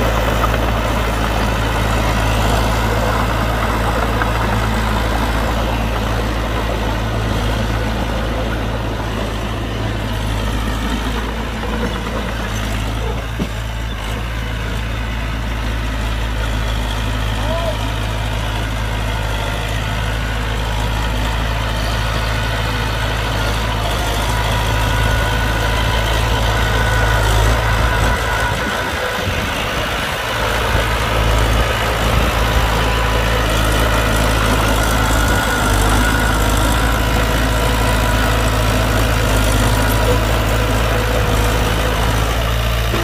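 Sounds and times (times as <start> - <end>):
diesel engine idling: 0.0 - 43.0.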